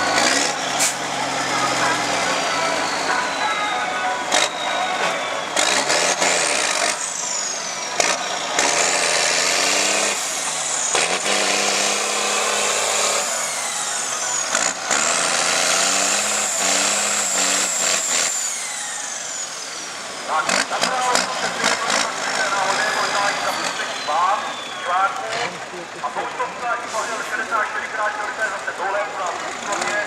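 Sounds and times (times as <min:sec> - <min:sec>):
diesel truck engine under load: 0:00.0 - 0:30.0.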